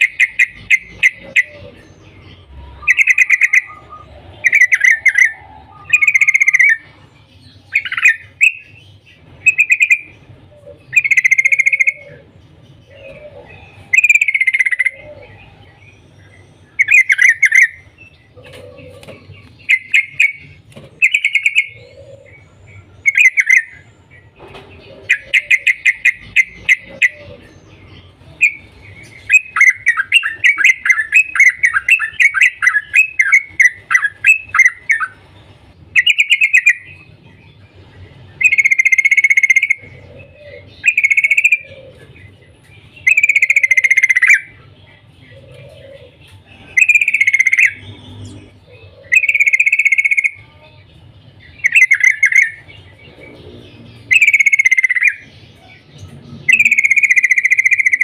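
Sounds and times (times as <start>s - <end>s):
bulbul calling: 0.0s - 7.0s, 7.6s - 50.6s, 51.4s - 58.0s.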